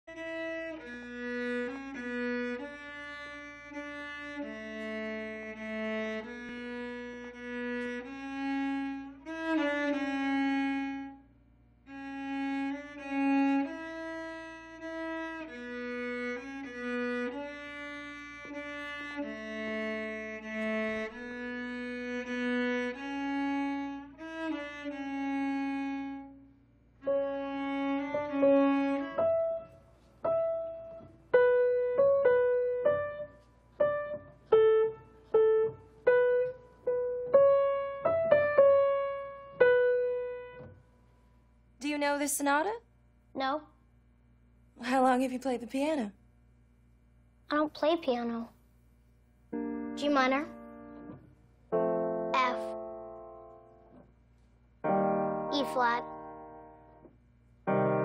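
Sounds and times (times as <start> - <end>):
solo cello melody: 0.0 - 40.8, 49.6 - 54.0, 54.8 - 57.1, 57.7 - 58.0.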